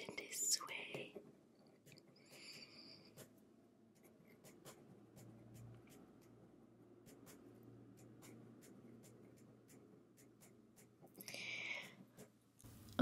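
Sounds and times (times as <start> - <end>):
pen scratching on paper: 1.7 - 12.4.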